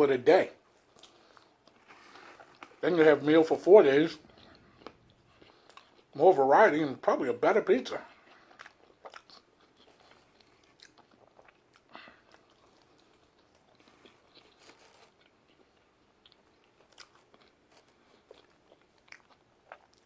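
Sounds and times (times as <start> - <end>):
faint chewing with small crunches: 0.2 - 20.0.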